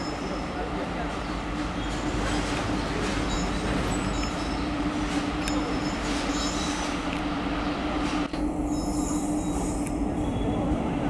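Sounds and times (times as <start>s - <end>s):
wheels squealing on rail: 0.0s - 7.0s, 7.6s - 11.0s
electric locomotive hum and rumble: 0.0s - 11.0s.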